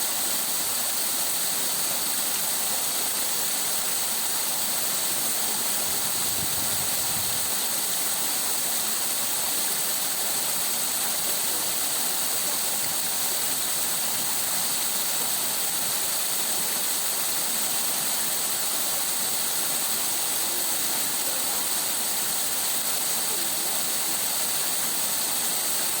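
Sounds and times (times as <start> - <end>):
water running over stones: 0.0 - 26.0.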